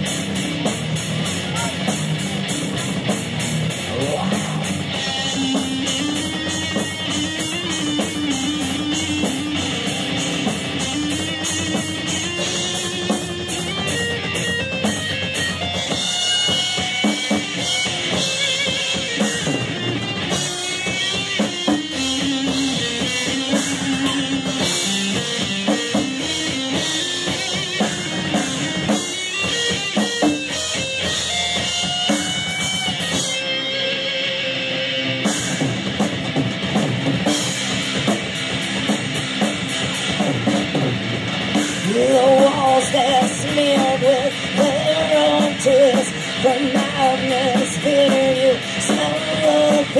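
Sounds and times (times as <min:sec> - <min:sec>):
heavy metal band playing: 0:00.0 - 0:49.9.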